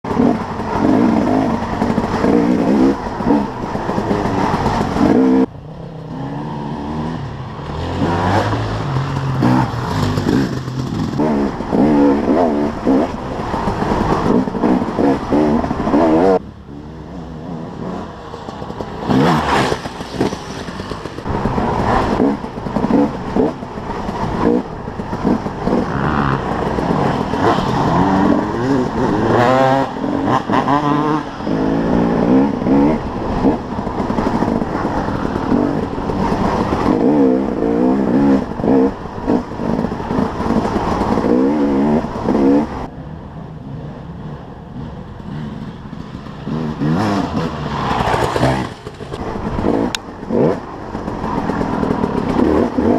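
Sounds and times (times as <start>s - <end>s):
dirt bike engine revving: 0.0s - 42.9s, 44.2s - 52.9s.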